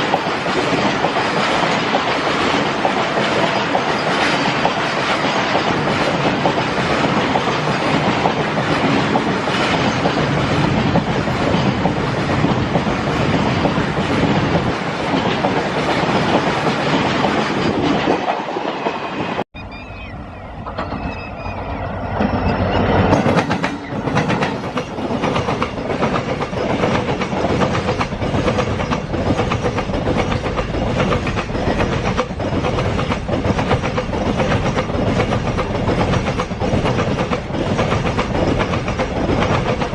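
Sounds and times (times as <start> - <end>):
train wheels clicking over rail joints: 0.0 - 18.9, 20.6 - 39.9.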